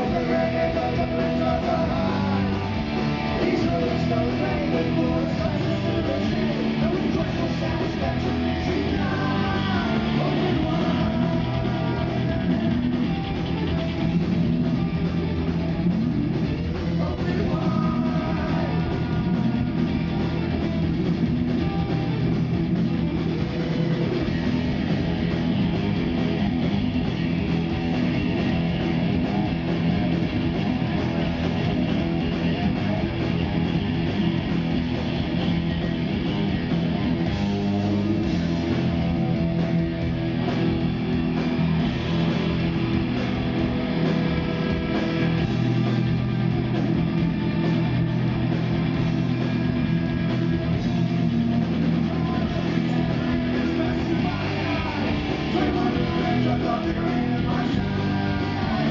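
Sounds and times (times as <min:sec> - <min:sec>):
live rock band: 0:00.0 - 0:58.9.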